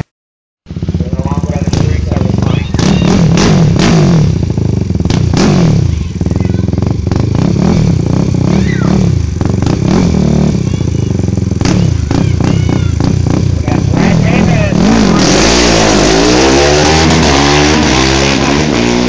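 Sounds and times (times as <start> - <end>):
pit bike engines revving: 0.7 - 19.0.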